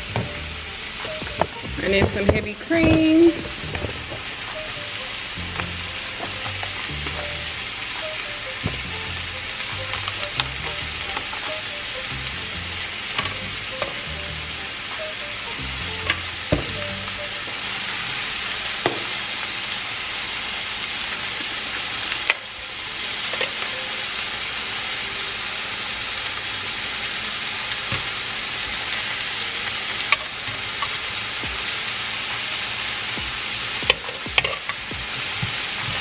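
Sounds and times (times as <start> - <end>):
vegetables sizzling in a frying pan: 0.0 - 36.0.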